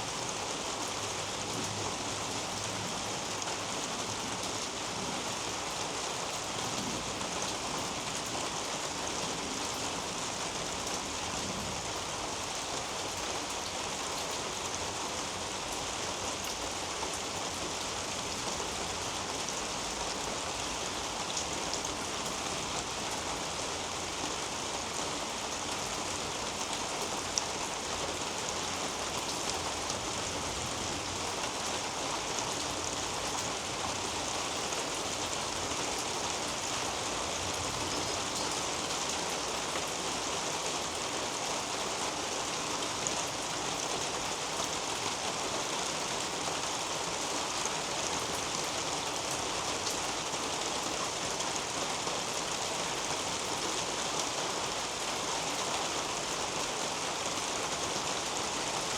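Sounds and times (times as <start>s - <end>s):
rain falling on leaves: 0.0s - 58.9s.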